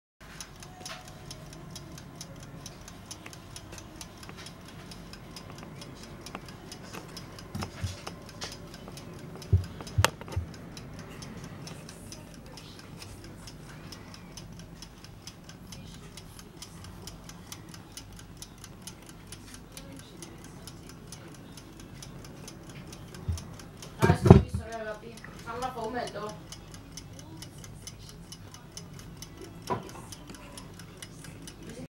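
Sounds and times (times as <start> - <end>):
clock ticking: 0.2 - 31.9.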